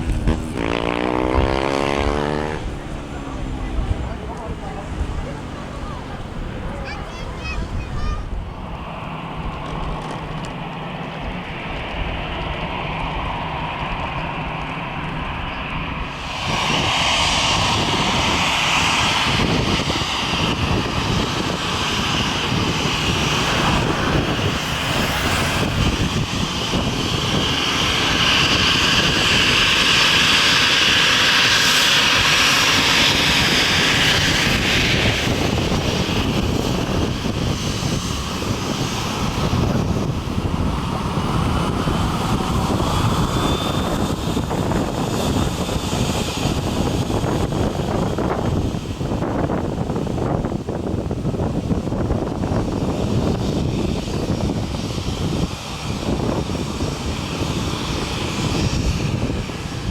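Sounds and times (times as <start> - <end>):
jet engines running at high power: 0.0 - 59.9.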